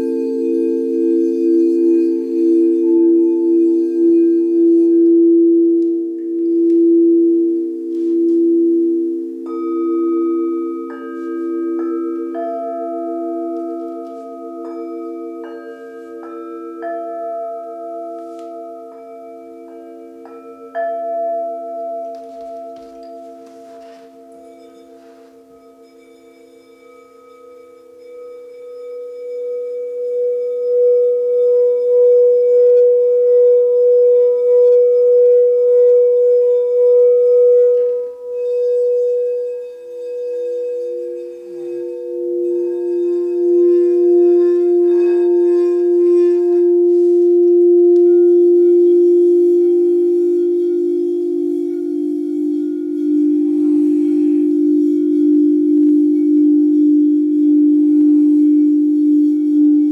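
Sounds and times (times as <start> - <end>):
lower-pitched singing bowl: 0.0 - 59.9
singing bowl tone: 0.0 - 59.9.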